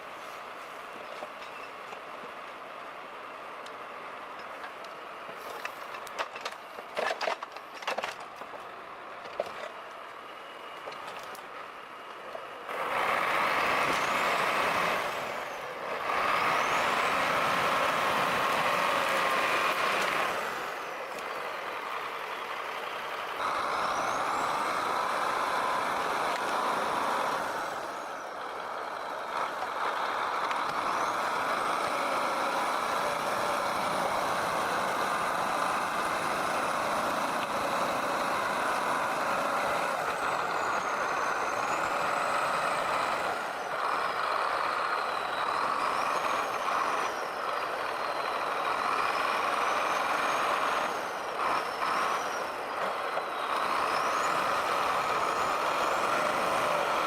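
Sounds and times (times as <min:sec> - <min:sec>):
heavy vehicle engine under load: 0:00.0 - 0:57.0.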